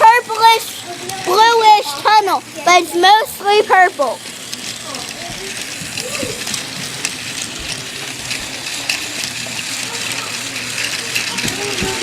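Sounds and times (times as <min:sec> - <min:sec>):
toy train whirring on track: 0:00.0 - 0:12.0.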